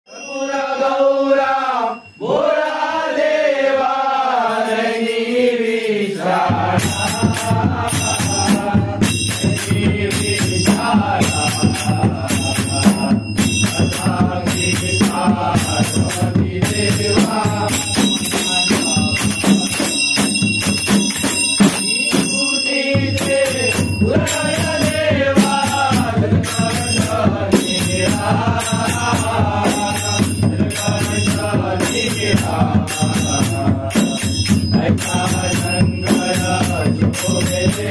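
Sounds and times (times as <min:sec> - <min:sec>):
fast percussion beat with bass: 0:06.3 - 0:37.9.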